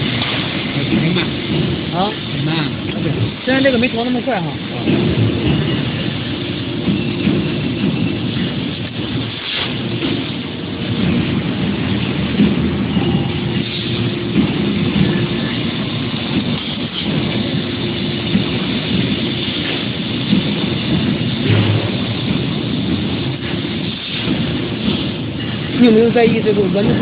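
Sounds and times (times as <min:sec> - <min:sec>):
laser cutting hiss: 0:00.0 - 0:27.0
low machinery rumble: 0:00.0 - 0:27.0.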